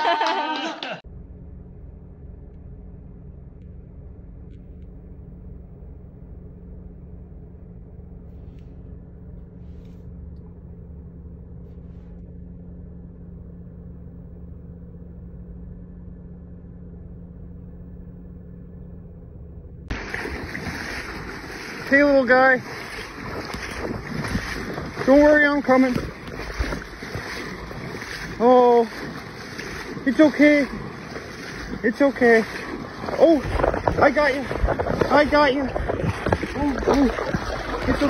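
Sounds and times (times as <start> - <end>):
car engine idling: 1.1 - 38.0.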